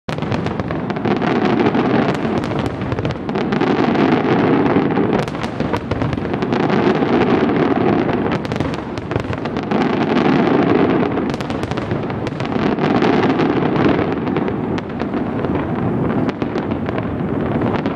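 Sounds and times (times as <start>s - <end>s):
fireworks bangs and crackles: 0.1s - 17.9s
sharp fireworks pops: 0.1s - 17.9s.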